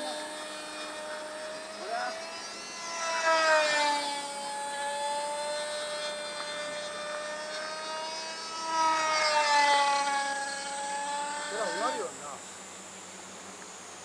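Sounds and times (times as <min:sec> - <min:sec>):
model airplane motor whine: 0:00.0 - 0:14.0.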